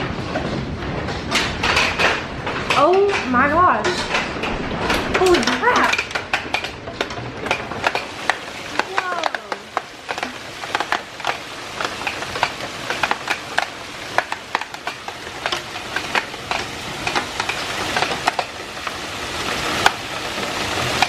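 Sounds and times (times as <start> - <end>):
hailstones clicking: 0.1 - 21.0
hail hissing down: 2.8 - 21.0.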